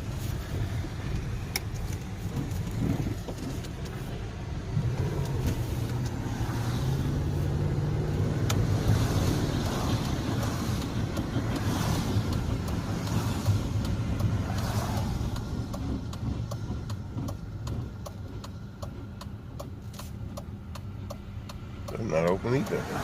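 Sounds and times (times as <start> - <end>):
car engine and road noise: 0.0 - 23.0
regular ticking: 0.0 - 23.0.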